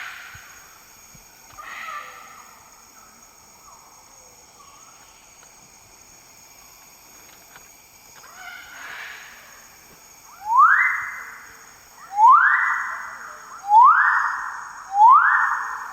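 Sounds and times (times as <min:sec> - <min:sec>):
insects buzzing: 0:00.0 - 0:15.9.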